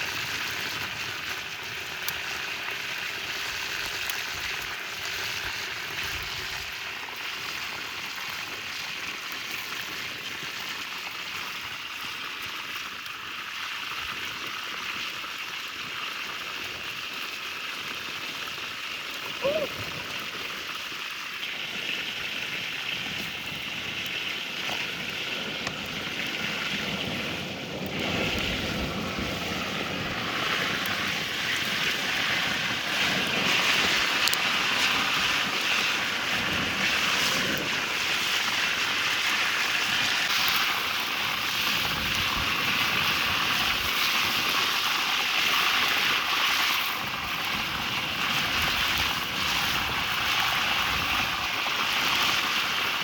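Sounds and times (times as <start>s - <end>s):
fish sizzling in hot oil: 0.0s - 53.0s.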